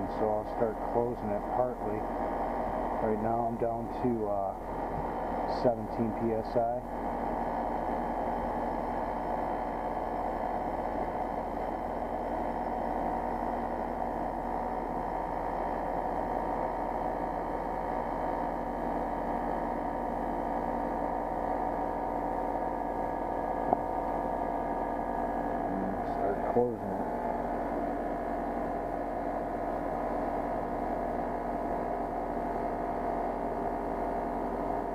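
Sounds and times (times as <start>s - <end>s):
heat pump unit running: 0.0s - 34.9s.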